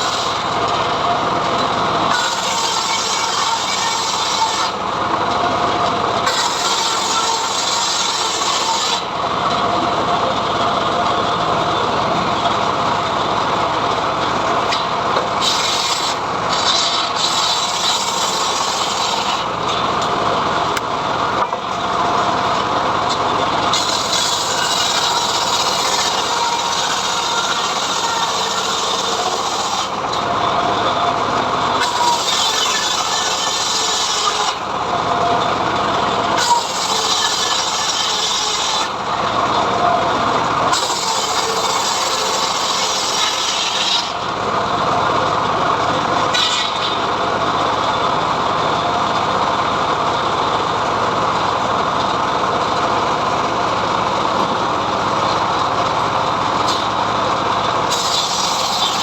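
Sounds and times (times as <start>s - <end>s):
engine running: 0.0s - 59.0s
sawmill sawing log: 0.0s - 59.0s.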